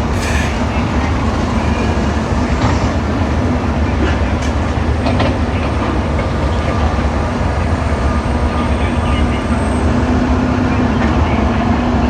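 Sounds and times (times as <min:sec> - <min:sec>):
diesel machinery rumbling: 0:00.0 - 0:12.0.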